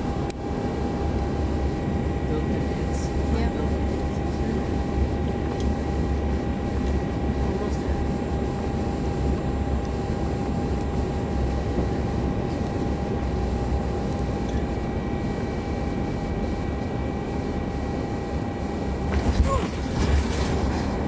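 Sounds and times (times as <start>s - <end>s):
faint steady whine: 0.0s - 21.0s
jet engine rumble: 0.0s - 21.0s.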